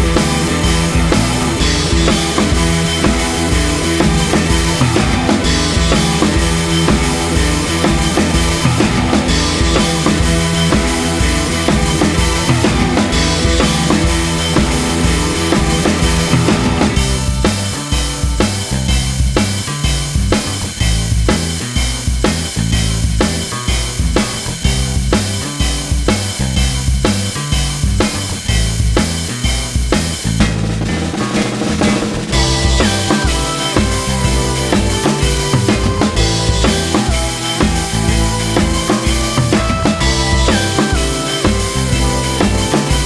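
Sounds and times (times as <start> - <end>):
drum kit beat: 0.0 - 43.0
heavy bass line: 0.0 - 43.0.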